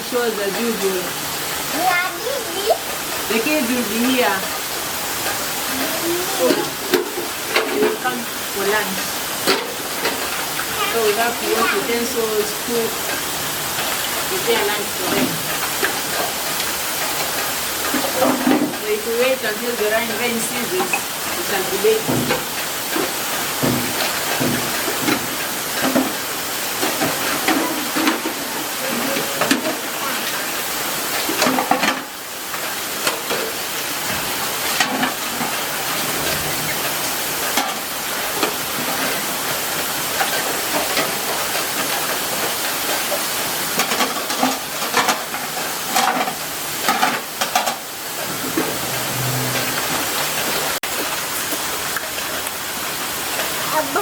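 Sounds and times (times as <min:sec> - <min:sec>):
heavy rain: 0:00.0 - 0:54.0
sharp knocks and drips: 0:02.8 - 0:52.6.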